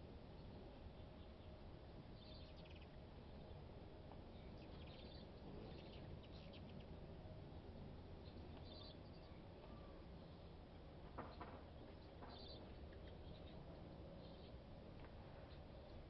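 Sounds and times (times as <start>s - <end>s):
hummingbirds twittering: 0.4s - 10.9s, 11.7s - 14.8s.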